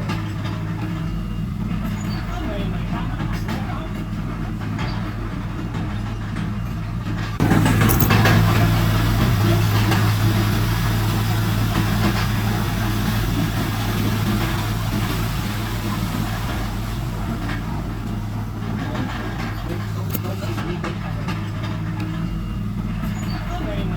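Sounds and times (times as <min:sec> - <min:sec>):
diesel engine of earthmover: 0:00.0 - 0:23.9.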